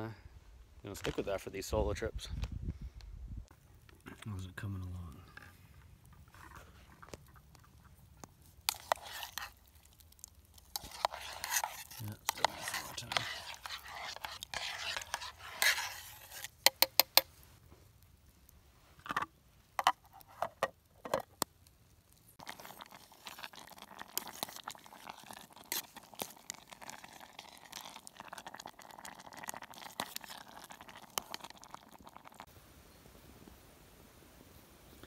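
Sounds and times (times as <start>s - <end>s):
campfire crackling: 3.5s - 35.0s.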